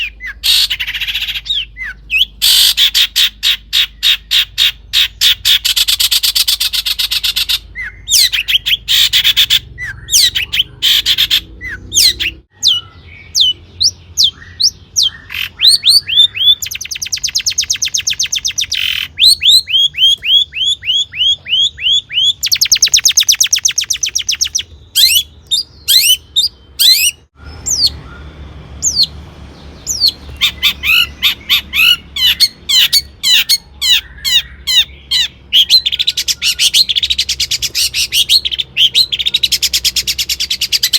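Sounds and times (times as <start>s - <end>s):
shrike singing: 0.0s - 40.9s.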